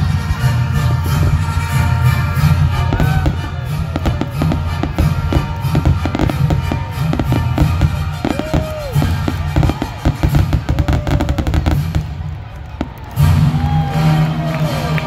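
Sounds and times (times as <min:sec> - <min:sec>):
music playing: 0:00.0 - 0:15.0
fireworks bursting: 0:00.9 - 0:13.7.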